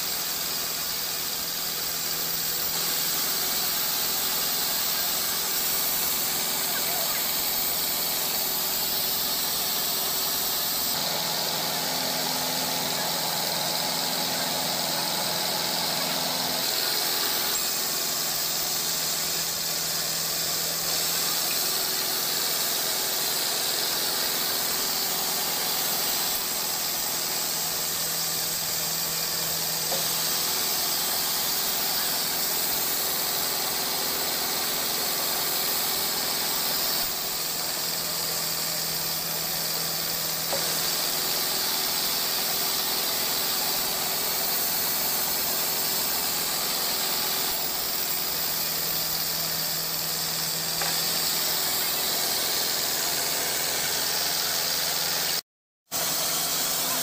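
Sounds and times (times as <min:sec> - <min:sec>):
saw high hiss: 0:00.0 - 0:57.0.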